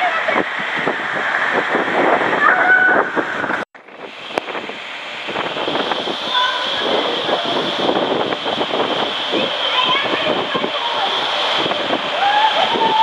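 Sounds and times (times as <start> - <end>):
water rushing in slide tube: 0.0 - 13.0.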